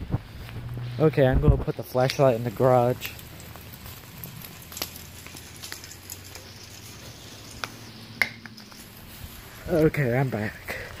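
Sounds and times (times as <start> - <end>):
light rain patter: 0.4 - 11.0.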